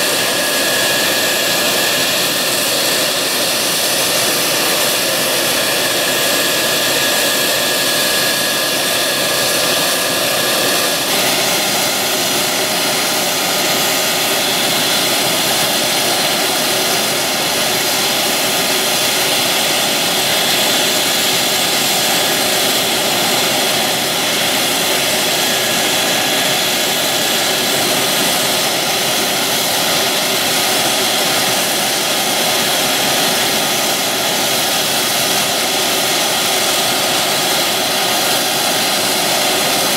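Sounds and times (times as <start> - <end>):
jet engine idling rush: 0.0 - 39.9.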